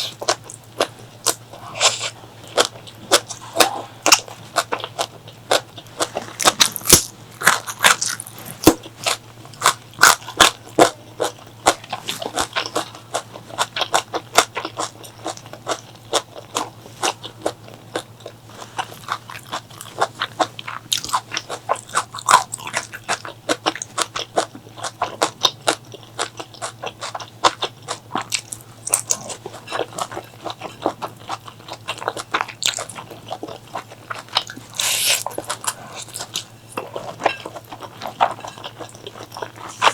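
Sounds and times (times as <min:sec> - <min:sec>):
crunchy biting and chewing: 0:00.0 - 0:39.9
steady low hum: 0:00.0 - 0:39.9.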